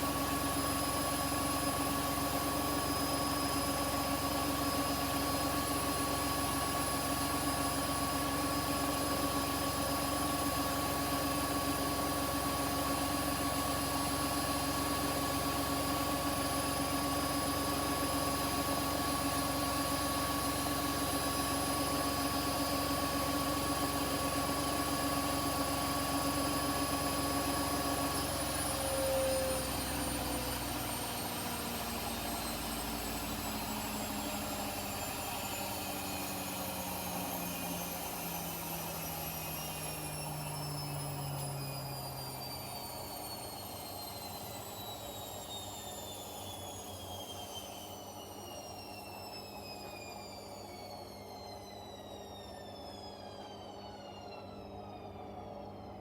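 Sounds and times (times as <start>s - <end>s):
washing machine spin whining: 0.0s - 56.0s.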